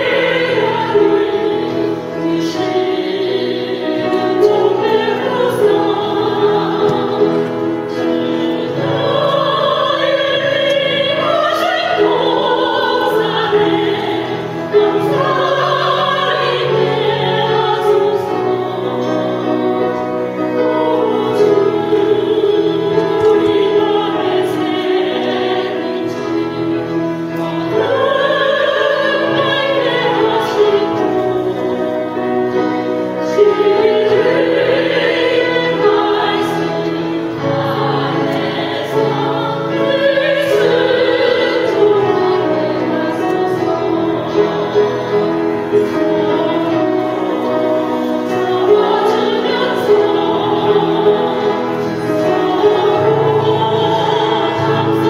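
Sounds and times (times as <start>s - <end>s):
group singing a hymn: 0.0s - 55.0s
steady musical accompaniment: 0.0s - 55.0s.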